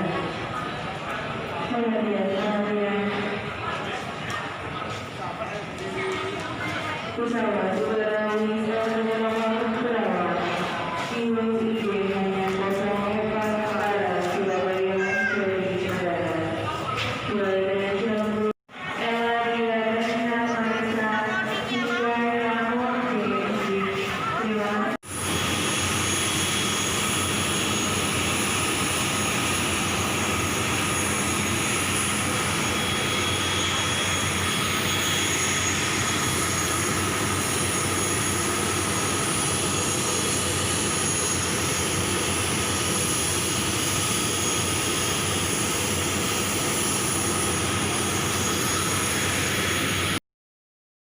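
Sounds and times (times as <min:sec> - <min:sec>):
airliner engines droning: 0:00.0 - 0:50.2.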